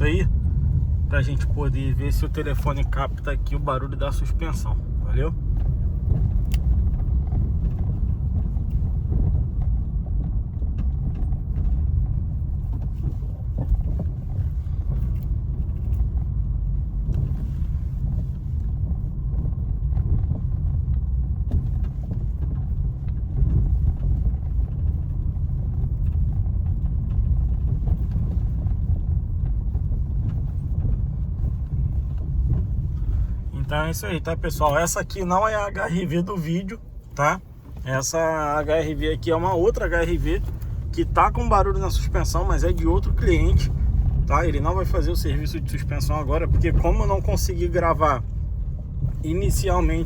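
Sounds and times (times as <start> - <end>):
low road rumble in car cabin: 0.0 - 50.0.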